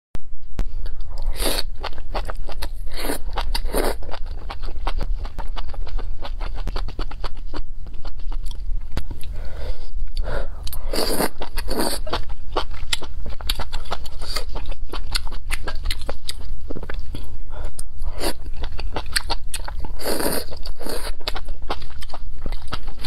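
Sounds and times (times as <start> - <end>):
crunchy chewing: 0.8 - 9.4, 10.1 - 23.0.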